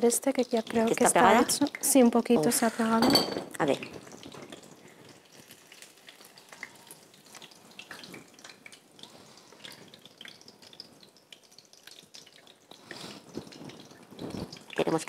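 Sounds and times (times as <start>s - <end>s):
pastry frying in hot oil: 0.0s - 15.0s.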